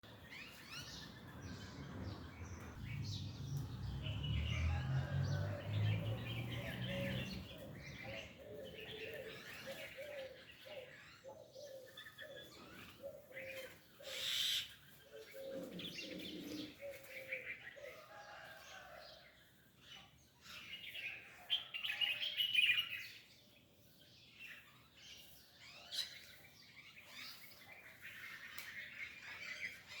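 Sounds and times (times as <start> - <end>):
birds chirping and singing: 0.0 - 30.0.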